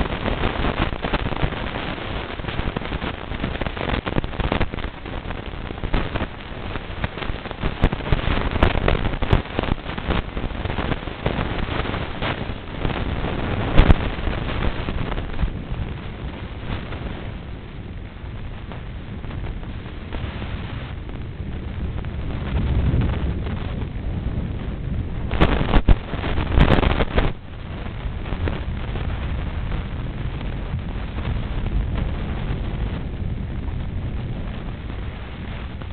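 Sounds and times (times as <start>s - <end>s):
microphone crackles: 0.0s - 35.9s
wind buffeting microphone: 0.0s - 35.9s.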